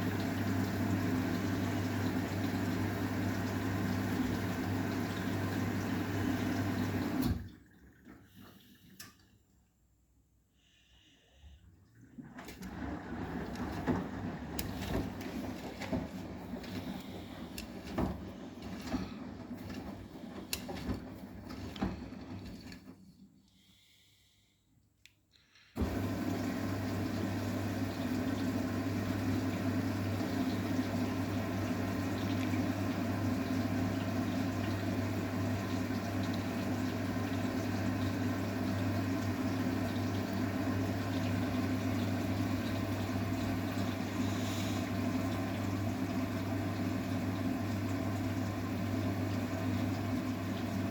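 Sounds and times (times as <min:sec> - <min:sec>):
water rushing into washing machine: 0:00.0 - 0:09.4, 0:11.7 - 0:23.4, 0:25.8 - 0:50.9.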